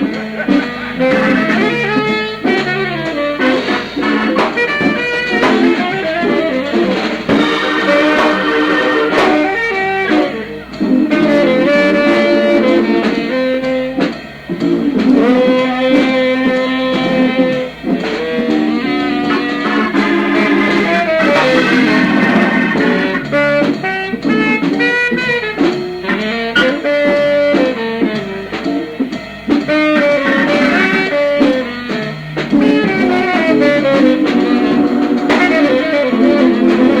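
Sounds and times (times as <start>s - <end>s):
electric guitar melody runs: 0.0s - 37.0s
jazz ballad combo: 0.0s - 37.0s
sustained organ chords: 0.0s - 37.0s.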